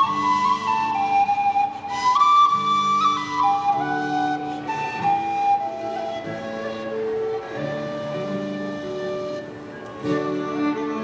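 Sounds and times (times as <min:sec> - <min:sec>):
flutes playing melody: 0:00.0 - 0:11.0
twelve-string guitar: 0:00.0 - 0:11.0.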